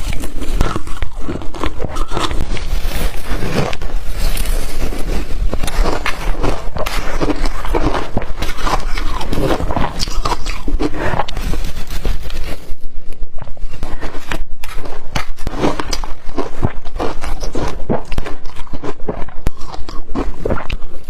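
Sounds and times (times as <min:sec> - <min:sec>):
chewing crushed ice: 0:00.0 - 0:21.0.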